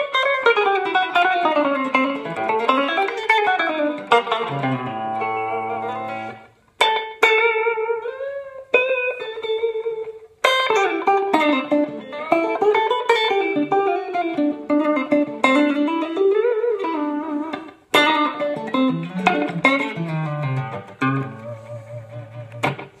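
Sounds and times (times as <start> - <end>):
twangy electric guitar: 0.0 - 23.0.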